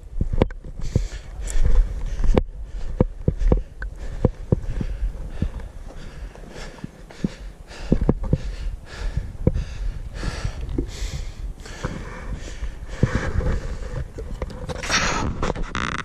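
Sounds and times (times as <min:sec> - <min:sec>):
footsteps: 0:00.0 - 0:15.6
hard fast breathing: 0:00.6 - 0:15.5.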